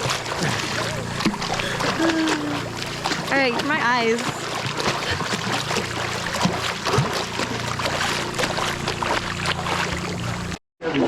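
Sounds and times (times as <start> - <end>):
boat engine humming: 0.0 - 10.6
water splashing and lapping: 0.0 - 11.0.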